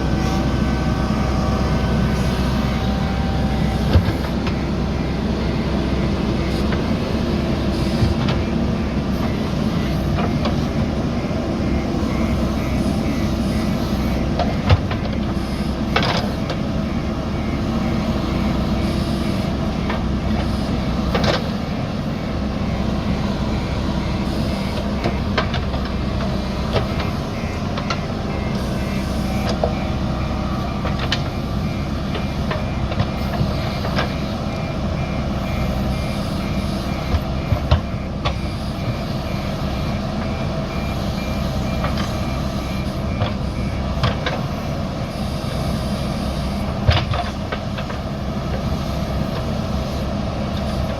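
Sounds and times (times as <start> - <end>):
diesel engine working under load: 0.0 - 50.9
reversing alarm beeping: 0.0 - 50.9.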